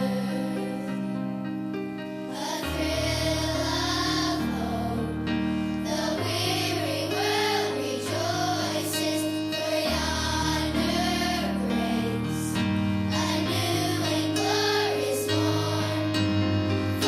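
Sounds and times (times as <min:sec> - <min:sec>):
voices singing with vibrato: 0:00.0 - 0:01.2, 0:02.3 - 0:16.4.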